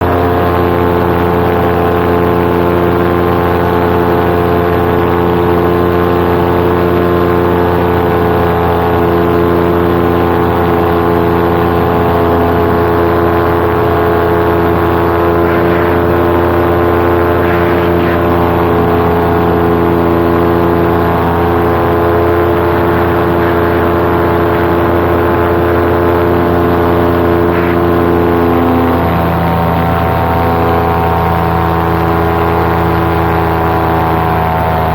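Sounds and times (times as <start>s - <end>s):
paramotor engine droning: 0.0s - 34.9s.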